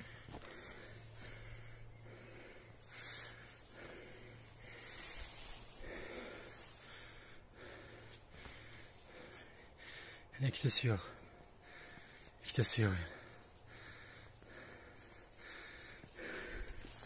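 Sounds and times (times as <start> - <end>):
faint low hum: 0.0 - 17.0
person breathing: 0.0 - 17.0.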